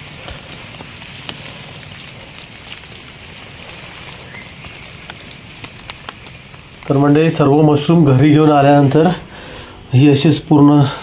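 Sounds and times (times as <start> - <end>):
light rain on leaves: 0.0 - 11.0.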